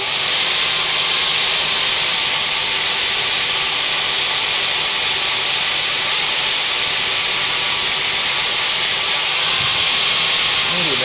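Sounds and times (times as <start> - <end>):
angle grinder grinding metal: 0.0 - 11.0.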